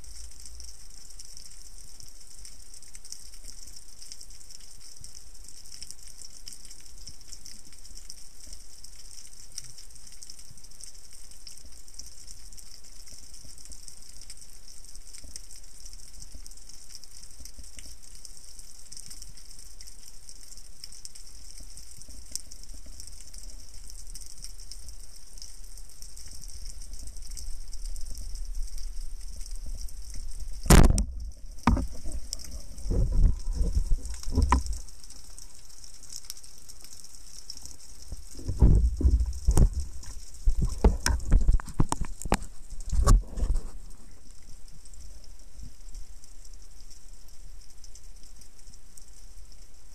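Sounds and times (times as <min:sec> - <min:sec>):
low rumble of water movement: 0:00.0 - 0:49.9
underwater crackling hiss: 0:00.0 - 0:49.9.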